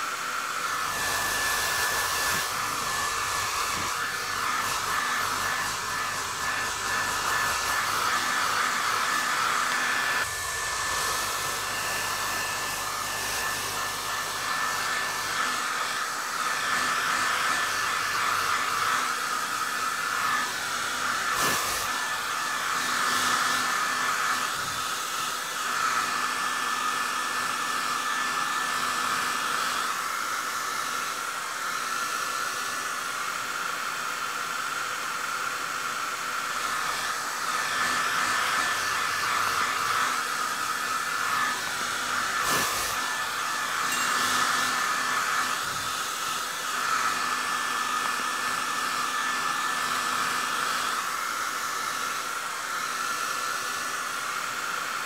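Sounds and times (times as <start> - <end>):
hair dryer blowing air: 0.0 - 55.0.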